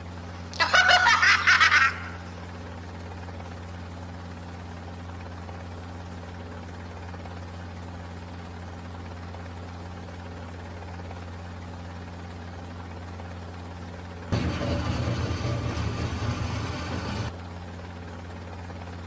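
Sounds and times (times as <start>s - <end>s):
cartoon helicopter engine drone: 0.0s - 19.0s.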